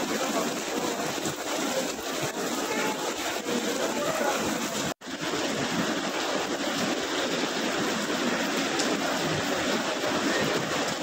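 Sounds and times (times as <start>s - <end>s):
rain: 0.0s - 11.0s
strong wind: 0.0s - 11.0s.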